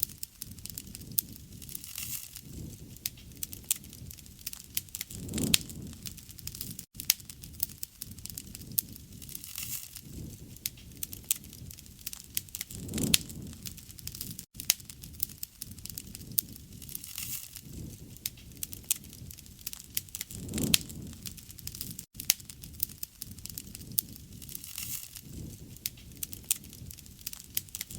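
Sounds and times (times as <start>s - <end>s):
campfire crackling and popping: 0.0s - 27.9s
low rumble of flames: 0.0s - 27.9s.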